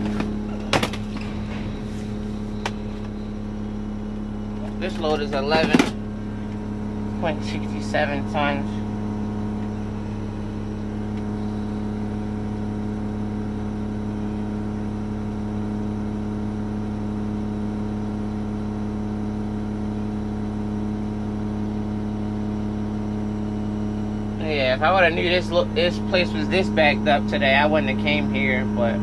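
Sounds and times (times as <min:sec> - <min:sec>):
truck engine running steadily: 0:00.0 - 0:29.0.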